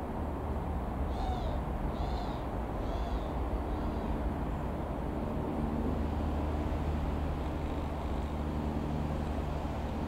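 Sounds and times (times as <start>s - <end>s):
light aircraft engine droning: 0.0s - 10.0s.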